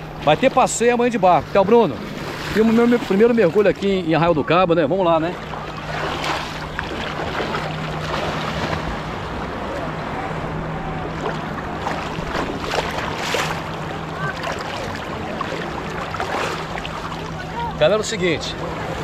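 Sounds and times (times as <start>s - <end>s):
low steady hum: 0.0s - 19.0s
sea water splashing: 0.0s - 19.0s.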